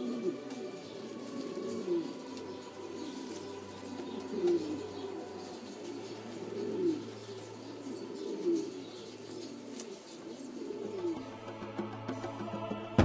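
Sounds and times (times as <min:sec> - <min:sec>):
pigeons cooing: 0:00.0 - 0:11.9.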